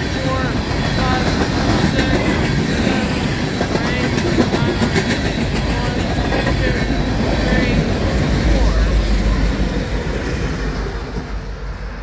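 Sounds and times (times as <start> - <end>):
low locomotive engine drone: 0.0 - 12.0
rail cars rumbling: 0.0 - 12.0.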